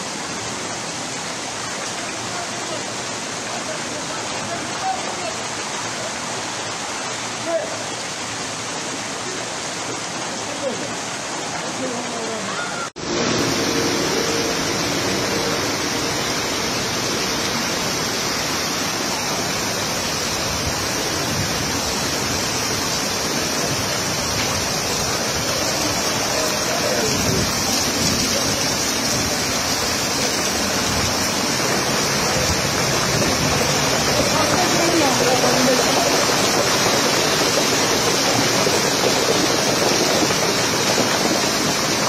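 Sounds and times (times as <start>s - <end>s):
floodwater rushing: 0.0s - 42.0s.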